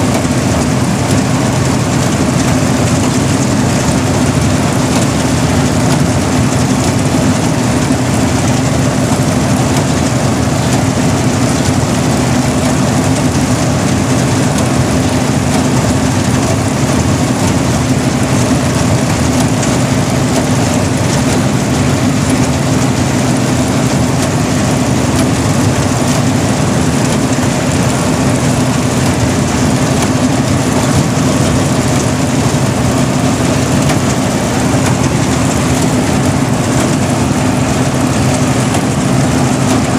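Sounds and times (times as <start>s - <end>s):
harvester engine droning: 0.0s - 39.9s.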